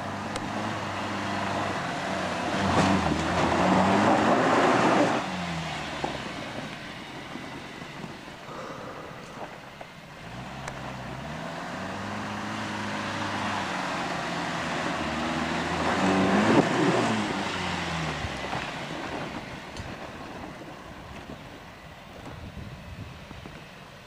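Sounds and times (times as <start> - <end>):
pickup truck engine climbing: 0.0 - 24.0.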